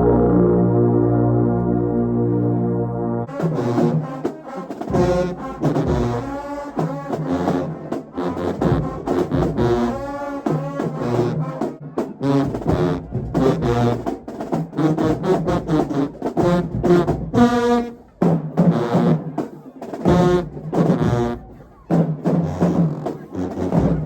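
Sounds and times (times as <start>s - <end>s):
low brass bass line: 0.0s - 18.0s, 20.1s - 21.6s, 22.3s - 24.0s
marching band brass playing: 0.0s - 24.0s.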